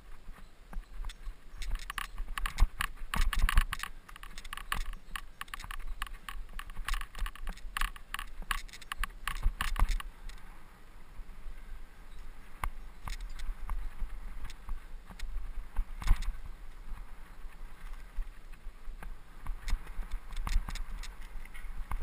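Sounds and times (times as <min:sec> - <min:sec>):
bike chain and frame clatter: 0:00.3 - 0:10.5, 0:12.9 - 0:18.6, 0:19.5 - 0:22.0.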